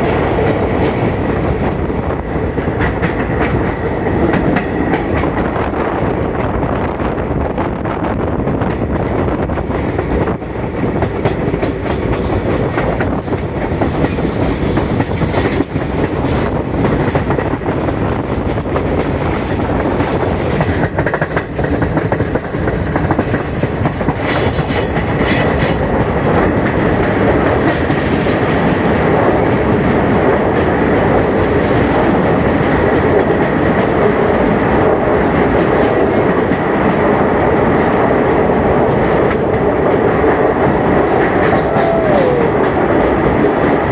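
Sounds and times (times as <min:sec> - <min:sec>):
sharp clicks from train wheels: 0:00.0 - 0:43.9
train wheels rumbling: 0:00.0 - 0:43.9.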